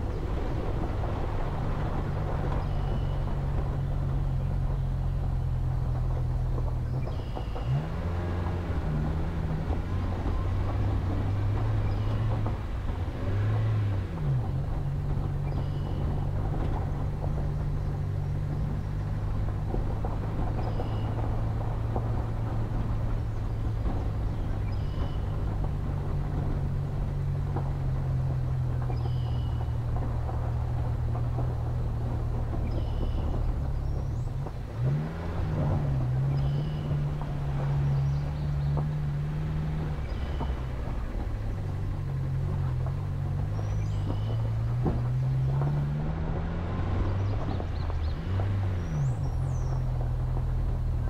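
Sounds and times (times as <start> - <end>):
stones knocking under wheels: 0.0 - 51.0
tyres crunching on gravel: 0.0 - 51.0
vehicle engine running at low revs: 0.0 - 51.0.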